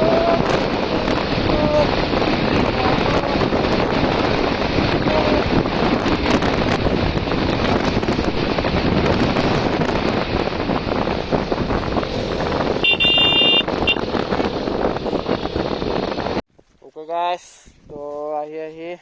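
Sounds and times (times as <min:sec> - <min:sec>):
motorcycle engine: 0:00.0 - 0:16.4
road noise: 0:00.0 - 0:16.4
wind rushing over microphone: 0:00.0 - 0:16.4.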